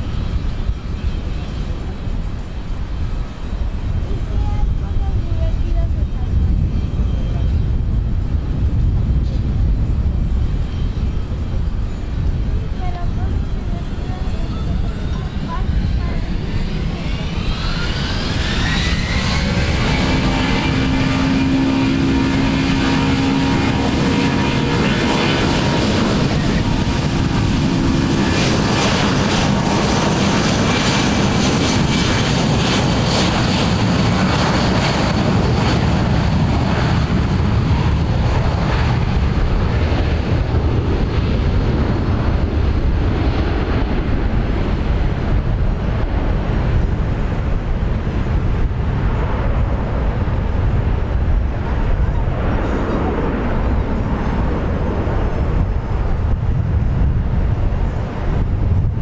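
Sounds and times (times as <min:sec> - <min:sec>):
jet engines roaring on takeoff: 0:00.0 - 0:59.0.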